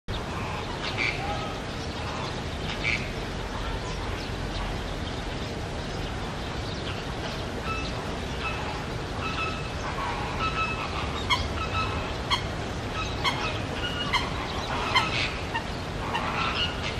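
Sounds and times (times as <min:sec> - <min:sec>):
outdoor background hum: 0:00.1 - 0:16.9.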